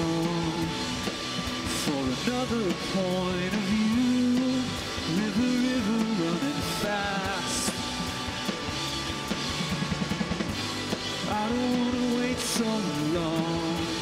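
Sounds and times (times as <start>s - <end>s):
electric guitar melody: 0.0s - 14.0s
rock band playing live: 0.0s - 14.0s.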